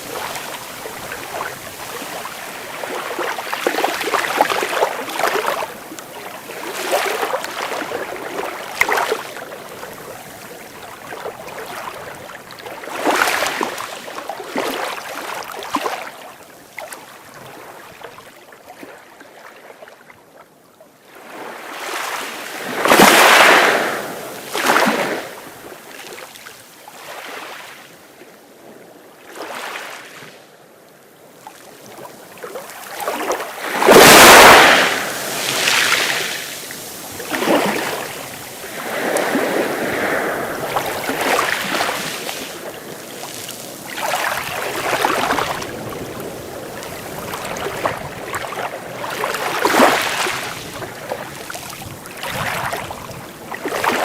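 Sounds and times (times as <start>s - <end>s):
sea waves breaking: 0.0s - 16.2s, 21.2s - 27.8s, 31.5s - 54.0s.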